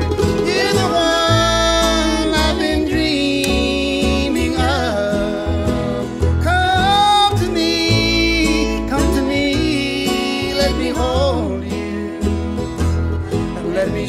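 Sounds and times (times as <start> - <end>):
string band music: 0.0 - 14.0.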